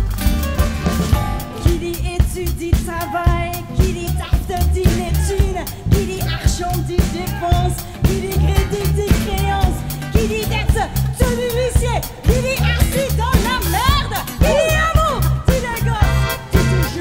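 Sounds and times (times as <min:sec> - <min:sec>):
acoustic guitar: 0:00.0 - 0:17.0
bass: 0:00.0 - 0:17.0
drum kit beat: 0:00.0 - 0:17.0
woman singing: 0:01.5 - 0:17.0.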